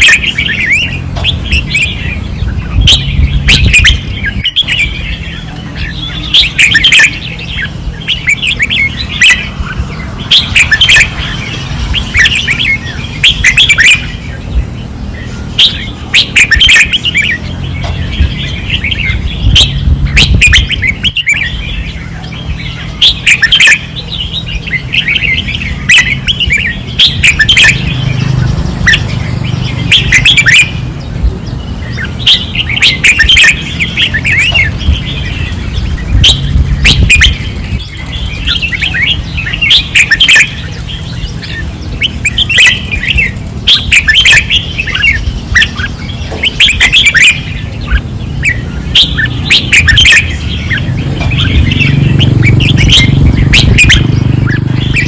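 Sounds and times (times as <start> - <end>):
bulbuls singing: 0.0 - 55.0
low steady rumble: 0.0 - 55.0.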